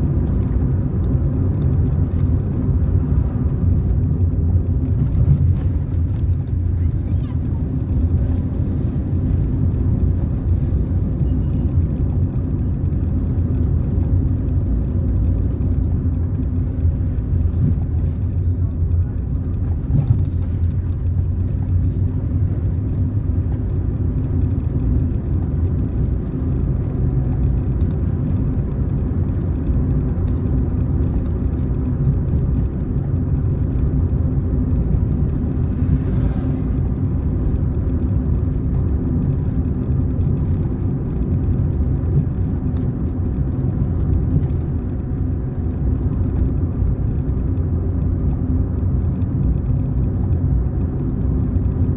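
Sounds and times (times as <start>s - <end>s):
car engine and tyre drone: 0.0s - 51.9s.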